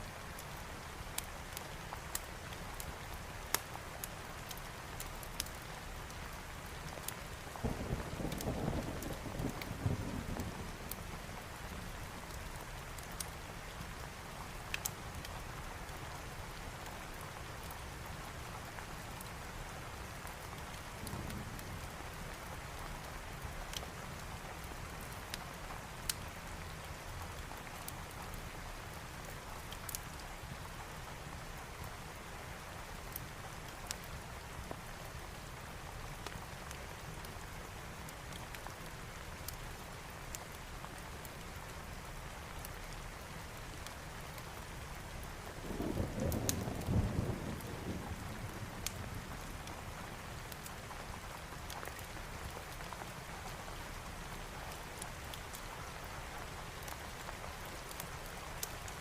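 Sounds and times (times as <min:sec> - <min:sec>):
steady rain falling: 0:00.0 - 0:59.0
wood fire crackling: 0:00.3 - 0:22.4, 0:23.6 - 0:59.0.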